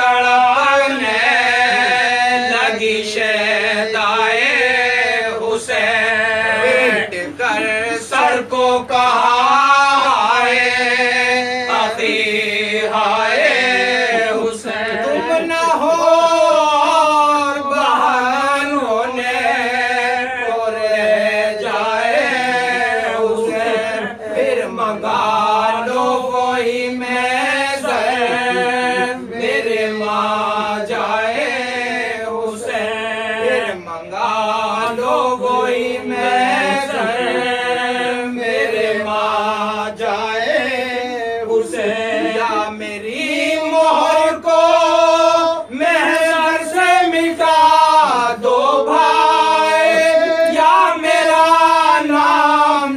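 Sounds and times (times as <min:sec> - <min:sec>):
men chanting unaccompanied: 0:00.0 - 0:52.9.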